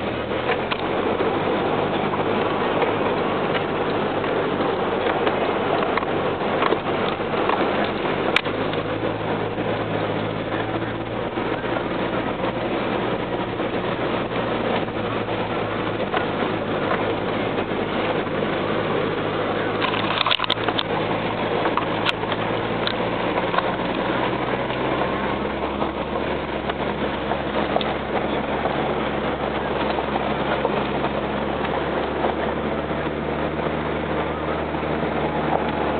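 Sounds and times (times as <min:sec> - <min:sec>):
engine hum inside cab: 0:00.0 - 0:35.9
tyres rolling on gravel: 0:00.0 - 0:35.9.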